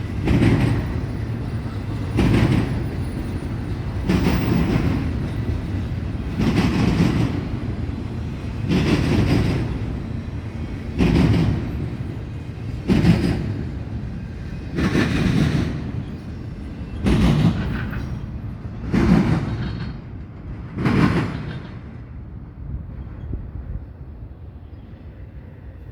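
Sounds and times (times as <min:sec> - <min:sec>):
clattering train wheels: 0:00.0 - 0:23.6
freight train rumbling on rails: 0:00.0 - 0:25.9.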